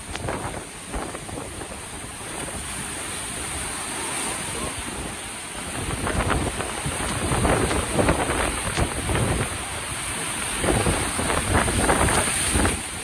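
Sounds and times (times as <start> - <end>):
waves crashing against rocks: 0.0 - 13.0
wind buffeting microphone: 0.0 - 13.0.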